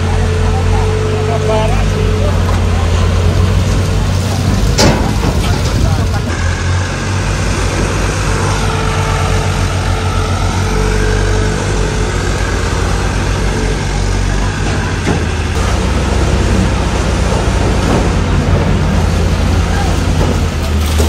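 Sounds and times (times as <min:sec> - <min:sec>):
diesel crane engine running: 0:00.0 - 0:21.0.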